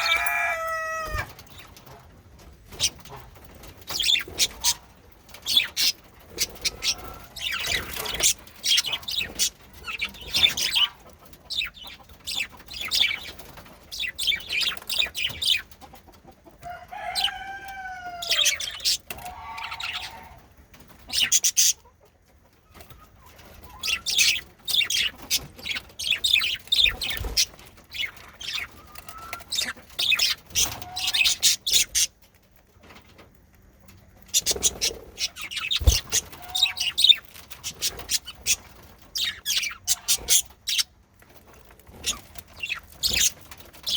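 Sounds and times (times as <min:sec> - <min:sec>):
budgerigars chirping and chattering: 0:00.0 - 0:02.0, 0:02.7 - 0:16.4, 0:18.2 - 0:21.9, 0:22.7 - 0:32.4, 0:33.9 - 0:43.9.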